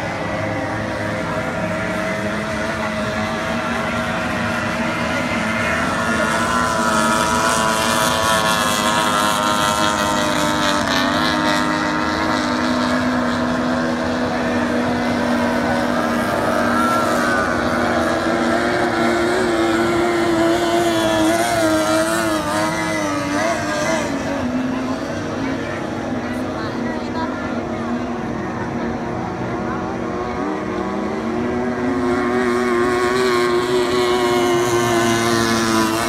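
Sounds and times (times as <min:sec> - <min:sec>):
outboard motors racing: 0:00.0 - 0:36.0.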